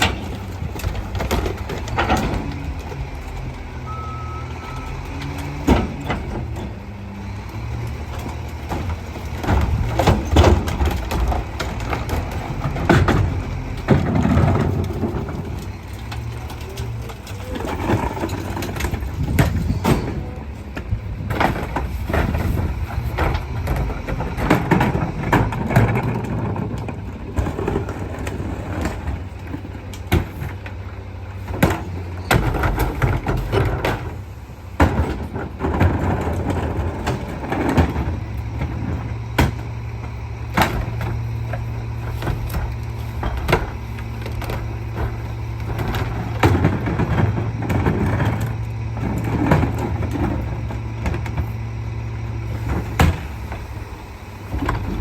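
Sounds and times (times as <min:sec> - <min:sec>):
garbage truck diesel engine running: 0:00.0 - 0:55.0.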